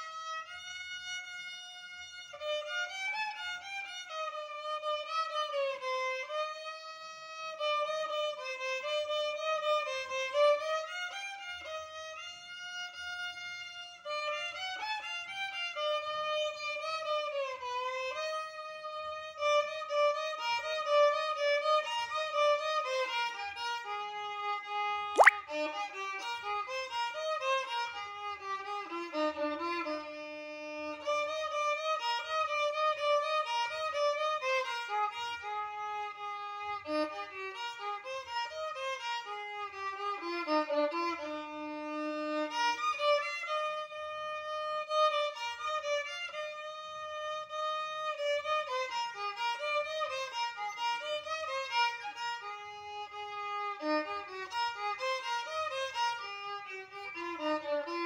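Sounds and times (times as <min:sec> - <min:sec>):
solo violin melody: 0:00.0 - 0:58.0.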